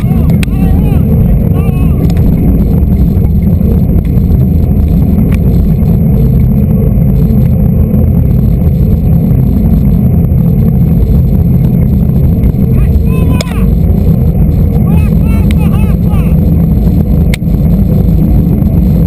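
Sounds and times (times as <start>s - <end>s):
bicycle road rumble on asphalt: 0.0s - 19.0s
wind buffeting microphone: 0.0s - 19.0s.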